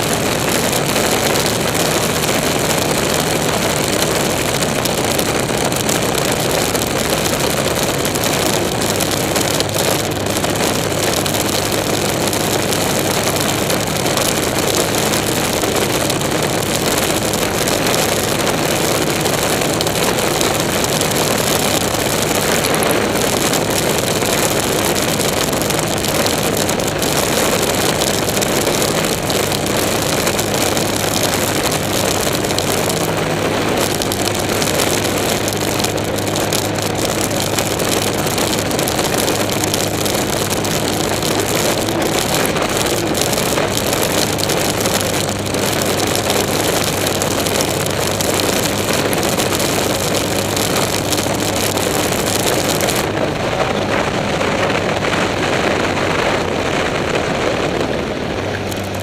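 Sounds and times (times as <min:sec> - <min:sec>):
off-road race car engine and rough-ground noise: 0:00.0 - 0:59.0.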